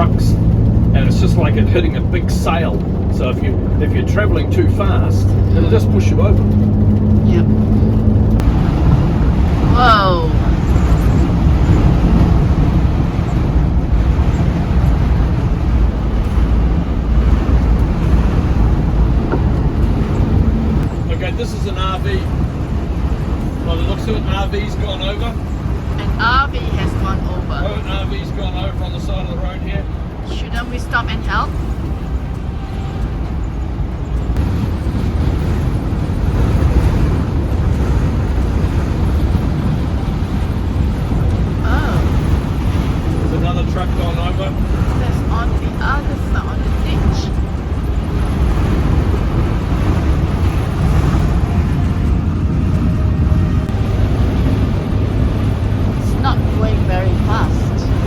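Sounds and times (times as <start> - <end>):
motorhome engine rumble: 0.0 - 58.0
road noise: 0.0 - 58.0
strong wind: 0.0 - 58.0.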